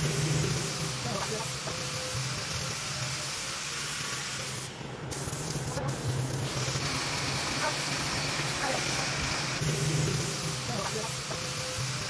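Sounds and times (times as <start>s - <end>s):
spray gun hissing: 0.0s - 12.0s.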